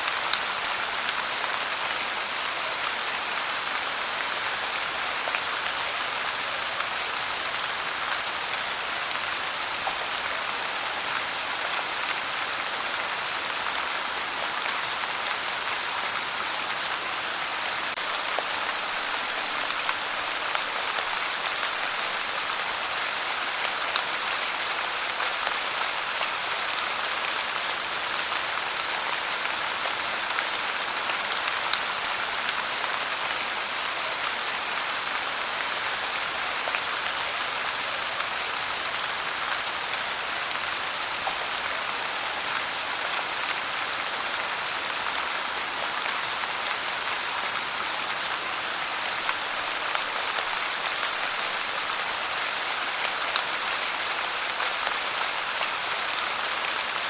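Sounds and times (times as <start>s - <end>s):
rain pouring and pattering: 0.0s - 57.0s.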